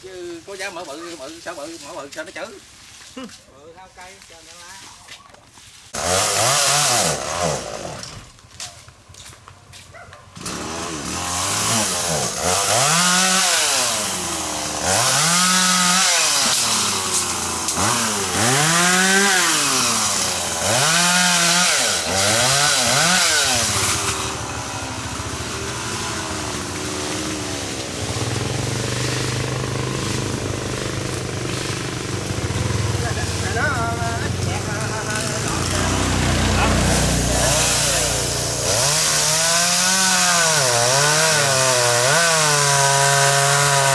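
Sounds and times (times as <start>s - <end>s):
chainsaw engine revving: 6.0s - 8.6s, 10.4s - 43.9s.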